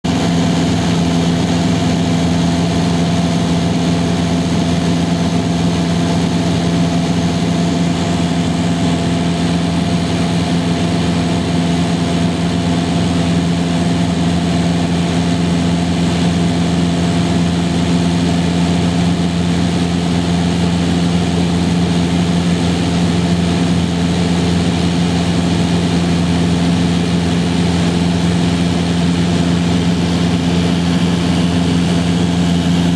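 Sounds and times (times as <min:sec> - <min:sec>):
light aircraft engine and propeller: 0:00.0 - 0:32.9.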